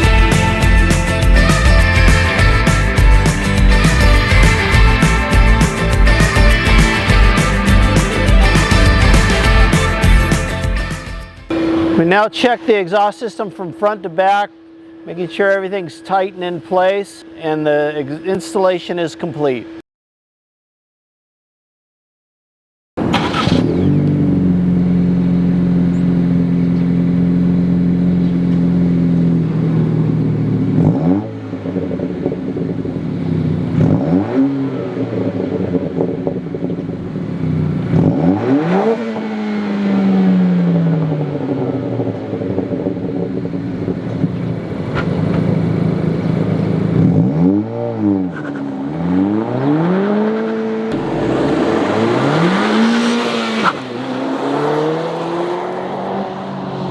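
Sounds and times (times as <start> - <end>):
car engine idling and revving: 0.0 - 12.0, 23.0 - 56.9.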